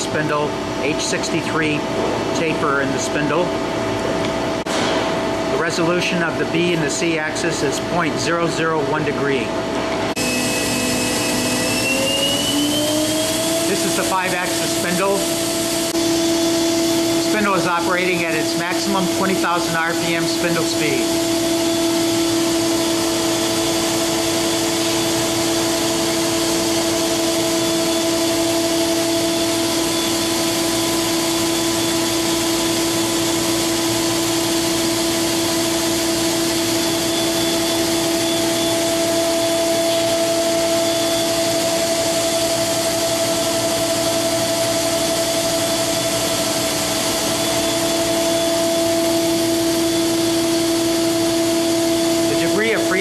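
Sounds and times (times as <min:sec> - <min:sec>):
spindle whining over hiss: 0:10.1 - 0:53.0.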